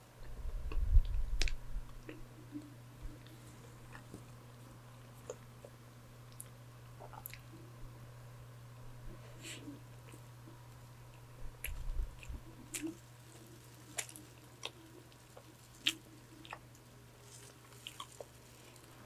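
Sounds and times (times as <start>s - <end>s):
electric fan hum: 0.0s - 19.0s
chewing and wet mouth sounds: 0.2s - 7.6s, 10.0s - 19.0s.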